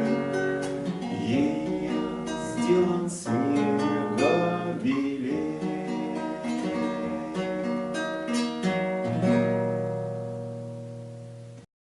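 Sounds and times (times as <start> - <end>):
guitar picking and strumming: 0.0 - 11.6.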